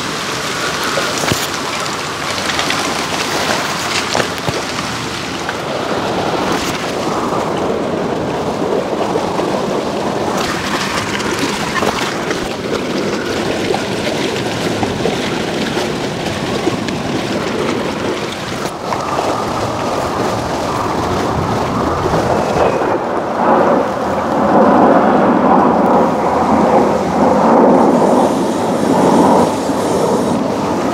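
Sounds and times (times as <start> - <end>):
water slapping against dock: 0.0 - 30.9
wind on microphone: 0.0 - 30.9.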